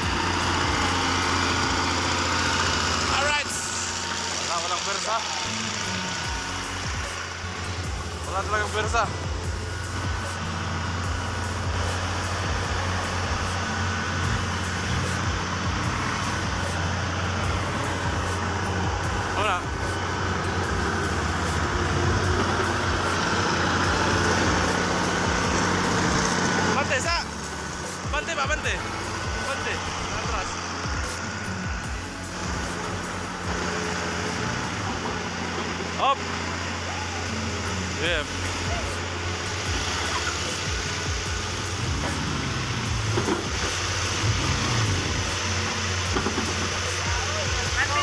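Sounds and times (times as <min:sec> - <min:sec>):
truck engine running under load: 0:00.0 - 0:48.0.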